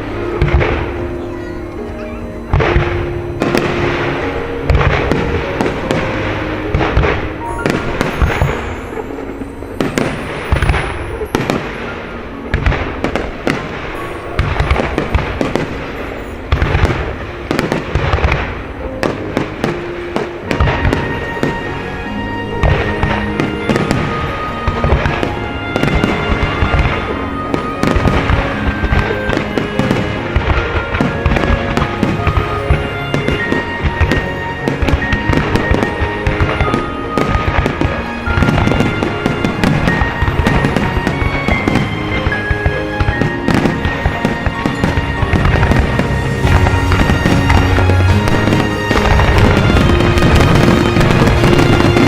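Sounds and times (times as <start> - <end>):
fireworks bangs and booms: 0.0 - 52.0
music track: 0.0 - 52.0.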